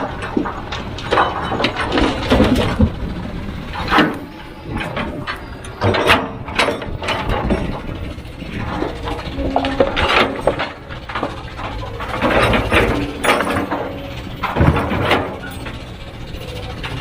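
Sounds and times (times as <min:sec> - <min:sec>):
heavy machinery engine running: 0:00.0 - 0:17.0
metallic clanking and knocking: 0:00.0 - 0:17.0.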